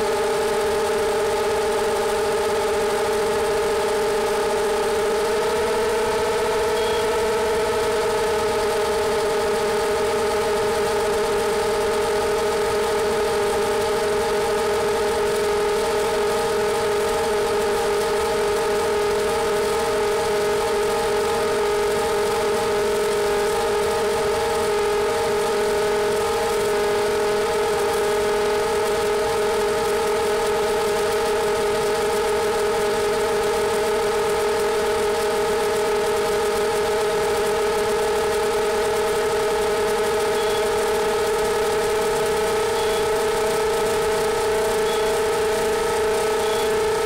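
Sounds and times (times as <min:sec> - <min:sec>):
quadcopter motors humming: 0:00.0 - 0:47.0.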